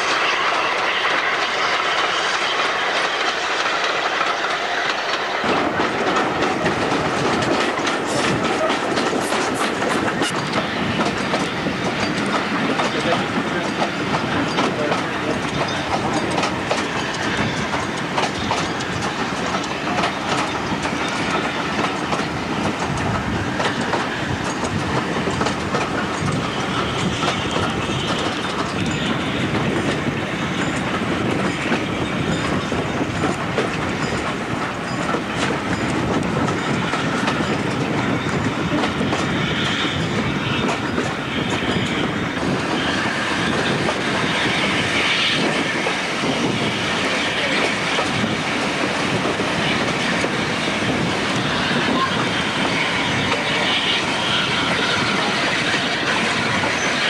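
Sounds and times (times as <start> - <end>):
rail joint clicks: 0.0 - 57.0
train wheels rumbling on track: 0.0 - 57.0.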